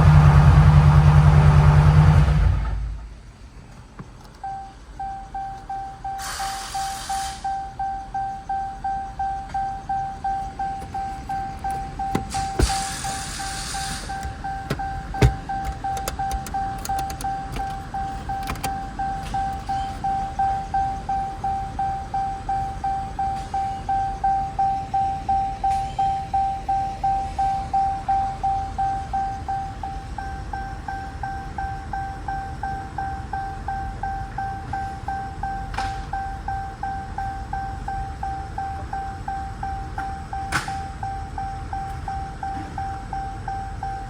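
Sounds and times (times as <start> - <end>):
electronic warning chime dinging: 4.4 - 44.0.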